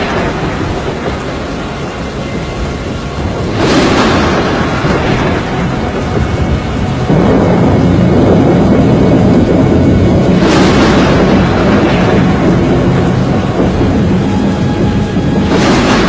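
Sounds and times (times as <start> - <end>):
deep storm rumble: 0.0 - 16.0
rain: 0.0 - 16.0
rushing wind: 0.0 - 16.0.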